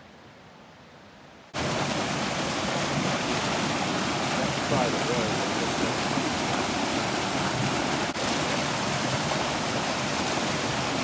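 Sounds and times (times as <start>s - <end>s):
stream water rushing: 1.6s - 11.0s.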